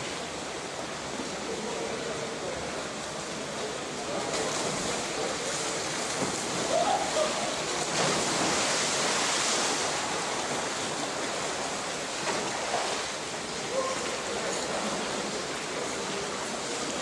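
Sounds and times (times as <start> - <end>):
swimmers splashing in pool: 3.2 - 17.0.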